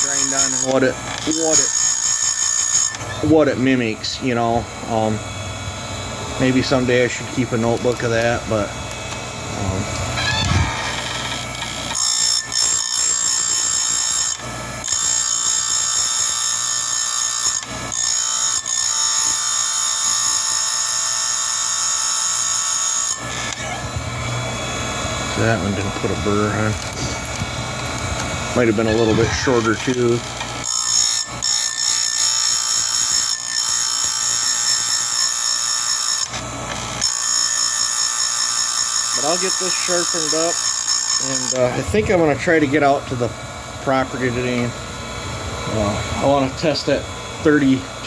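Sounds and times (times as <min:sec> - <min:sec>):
grinding wheel whine: 0:00.0 - 0:48.0.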